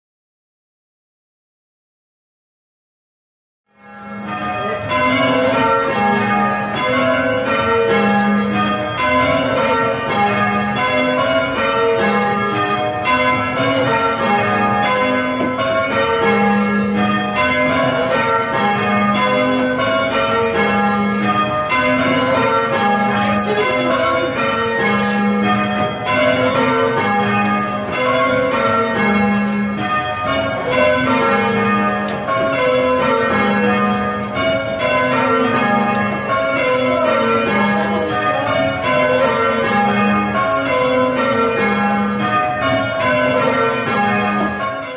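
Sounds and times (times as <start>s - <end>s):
church bells ringing rounds: 3.8s - 44.9s.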